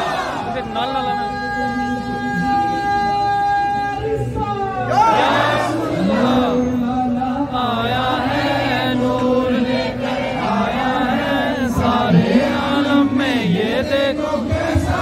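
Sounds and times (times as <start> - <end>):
men chanting in a crowd: 0.0 - 15.0.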